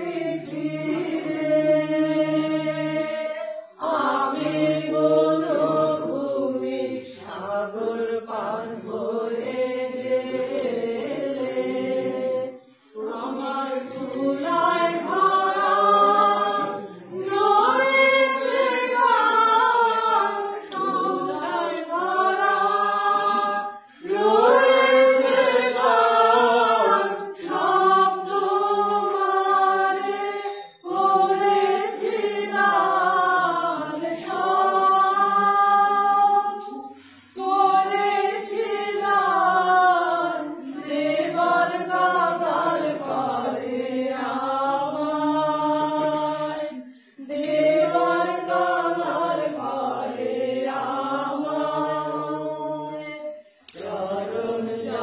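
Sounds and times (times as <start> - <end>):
women singing in unison: 0.0 - 55.0.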